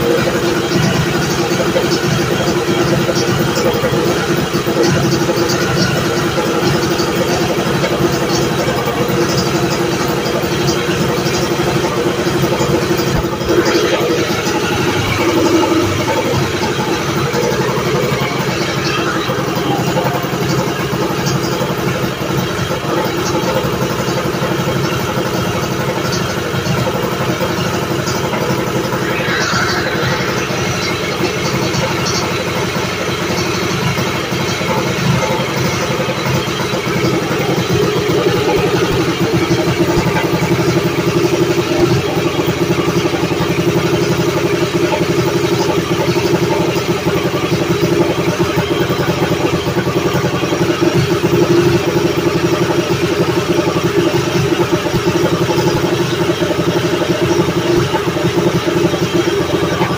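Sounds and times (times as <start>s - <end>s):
single-cylinder engine running: 0.0s - 59.9s.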